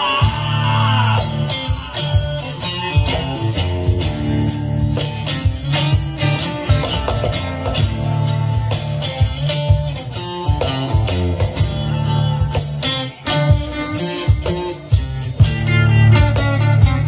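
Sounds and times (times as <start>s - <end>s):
electric guitar: 0.0s - 17.0s
hand-drummed cajon beat: 0.0s - 17.0s
strummed acoustic guitar: 0.0s - 17.0s.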